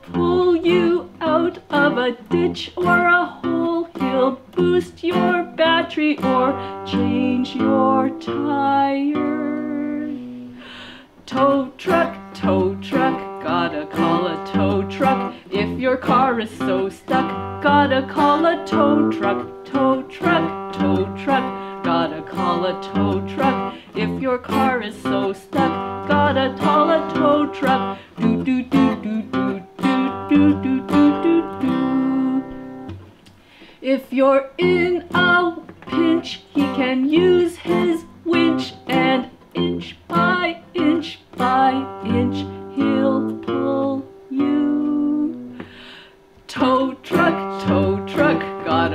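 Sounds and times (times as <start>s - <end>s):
woman singing: 0.0s - 32.9s, 33.8s - 45.8s, 46.5s - 48.9s
acoustic guitar strumming: 0.0s - 33.2s, 34.6s - 48.9s.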